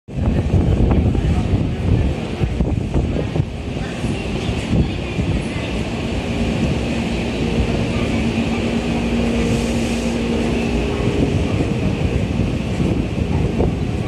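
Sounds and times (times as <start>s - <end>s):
electric train hum and rumble: 0.1s - 14.0s.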